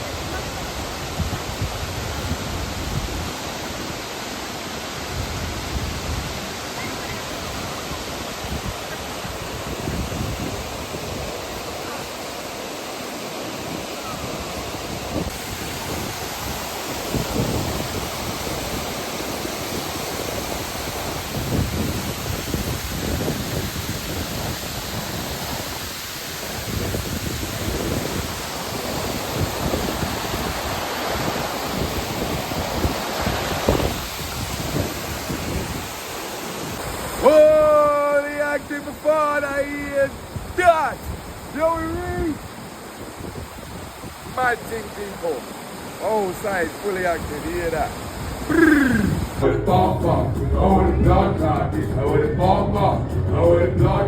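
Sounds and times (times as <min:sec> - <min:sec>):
wind buffeting microphone: 0:00.0 - 0:04.0, 0:05.1 - 0:12.2, 0:13.6 - 0:37.3, 0:40.1 - 0:44.5, 0:47.8 - 0:54.0
waterfall rushing: 0:00.0 - 0:54.0.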